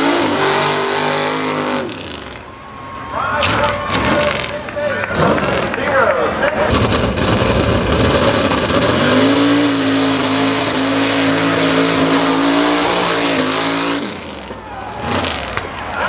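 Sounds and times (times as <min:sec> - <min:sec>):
race truck engine revving: 0:00.0 - 0:02.6, 0:03.4 - 0:16.0.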